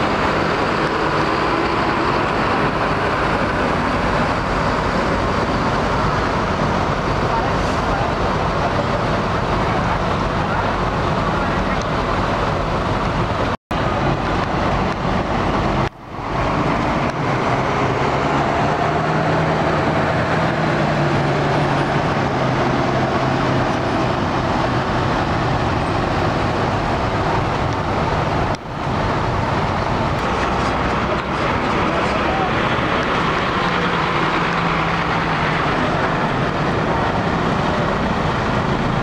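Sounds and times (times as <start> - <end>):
diesel bus engine running: 0.0 - 39.0
traffic din: 0.0 - 39.0.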